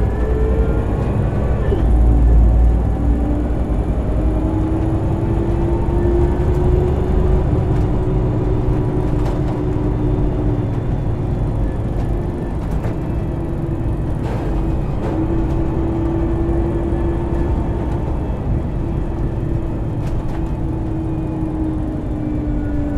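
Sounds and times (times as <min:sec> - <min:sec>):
bus gearbox whine: 0:00.0 - 0:22.9
diesel engine rumble: 0:00.0 - 0:22.9.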